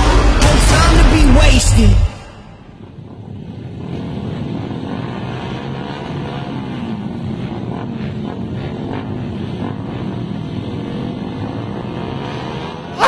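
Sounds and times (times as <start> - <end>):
motorcycle engines idling and revving: 0.0 - 13.0.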